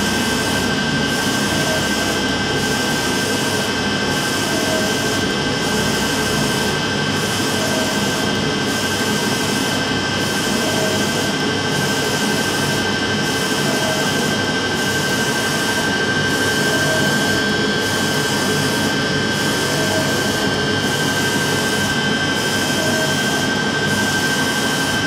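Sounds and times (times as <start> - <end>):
printer mechanical whirr: 0.0 - 25.0.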